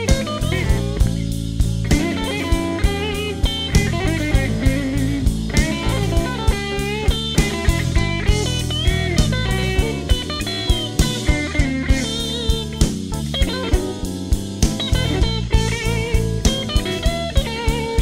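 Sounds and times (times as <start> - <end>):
electric blues music: 0.0 - 18.0.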